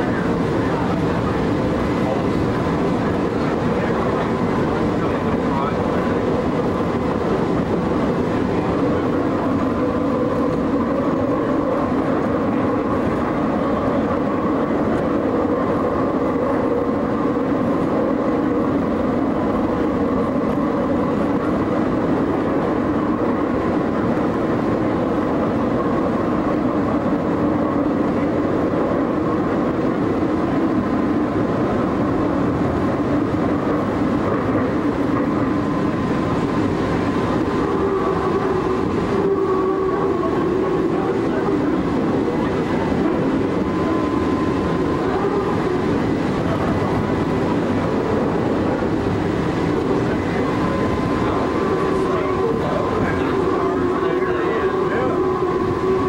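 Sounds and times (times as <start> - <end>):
faint steady whine: 0.0 - 56.0
streetcar wheels rumbling on rail: 0.0 - 56.0.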